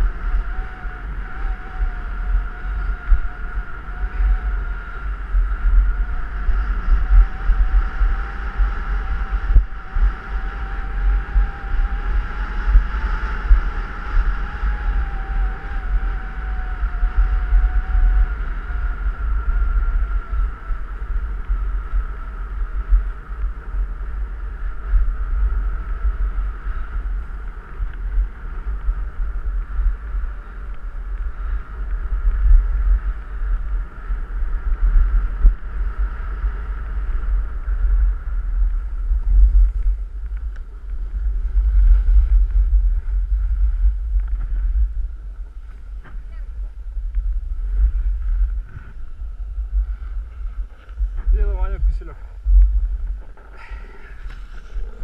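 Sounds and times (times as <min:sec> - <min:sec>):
faint whine: 0:00.0 - 0:55.0
wind buffeting microphone: 0:00.0 - 0:55.0.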